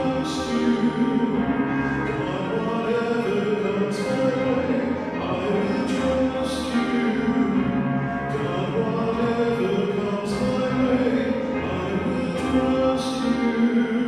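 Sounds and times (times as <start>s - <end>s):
sustained instrumental chords: 0.0s - 14.0s
worship song singing: 0.0s - 14.0s.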